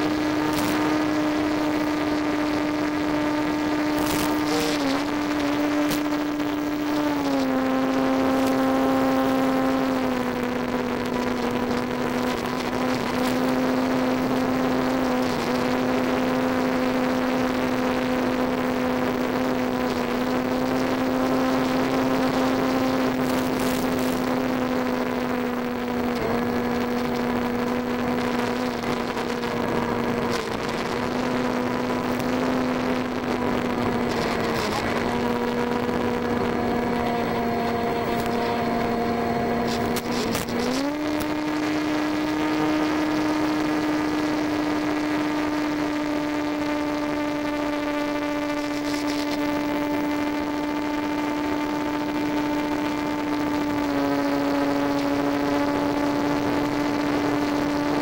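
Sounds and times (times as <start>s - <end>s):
electric motor buzzing whine: 0.0s - 58.0s.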